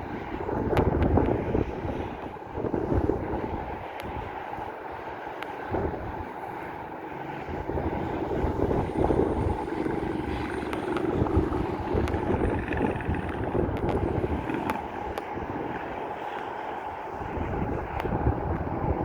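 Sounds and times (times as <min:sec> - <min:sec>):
jet engines rushing: 0:00.0 - 0:19.0
wind buffeting microphone: 0:00.0 - 0:19.0.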